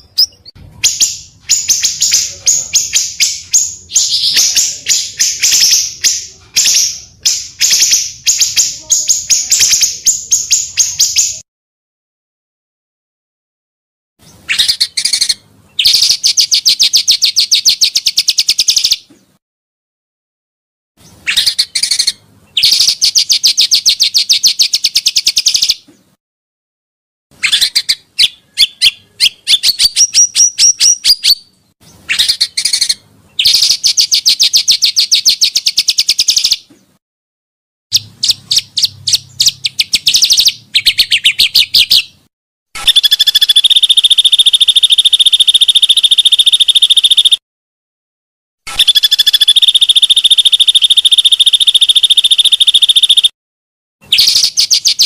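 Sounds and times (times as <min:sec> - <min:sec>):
bird chirping: 0:00.0 - 0:11.4, 0:14.2 - 0:19.4, 0:21.0 - 0:26.1, 0:27.4 - 0:37.0, 0:37.9 - 0:47.4, 0:48.7 - 0:53.3, 0:54.0 - 0:55.0
bird trill: 0:00.0 - 0:11.4, 0:14.2 - 0:19.1, 0:21.0 - 0:25.9, 0:27.4 - 0:36.7, 0:37.9 - 0:42.2, 0:42.8 - 0:47.4, 0:48.7 - 0:53.3, 0:54.0 - 0:55.0.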